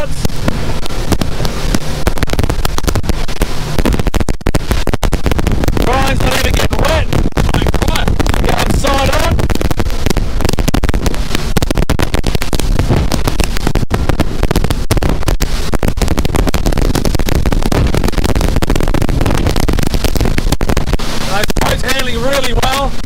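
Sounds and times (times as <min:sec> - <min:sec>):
boat rushing through choppy sea: 0:00.0 - 0:23.0
wind buffeting microphone: 0:00.0 - 0:23.0.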